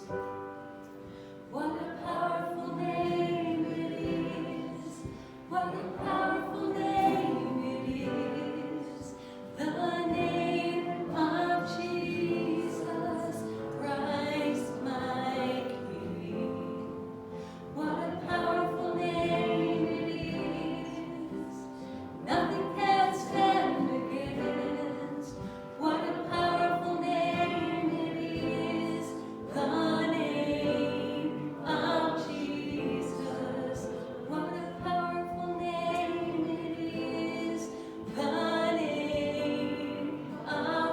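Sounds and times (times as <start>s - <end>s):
group singing worship song: 0.0s - 40.9s.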